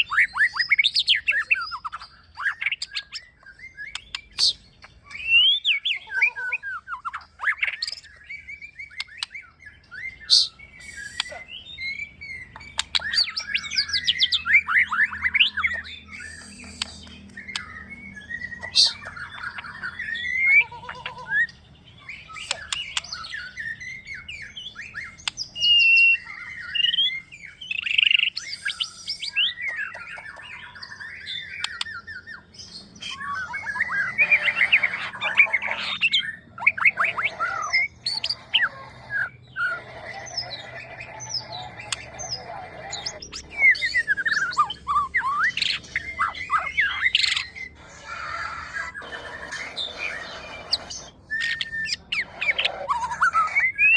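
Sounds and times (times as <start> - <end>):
songbird whistling and trilling: 0.0 - 53.9.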